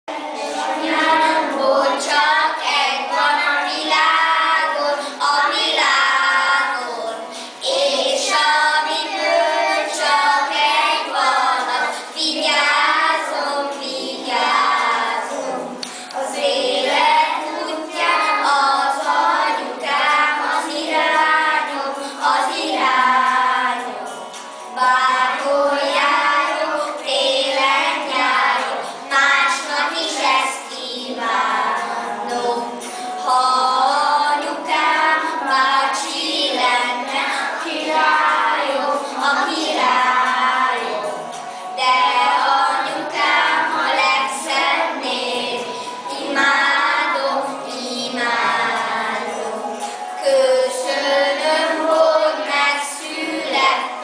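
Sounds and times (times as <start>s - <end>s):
children singing in unison: 0.1s - 54.0s.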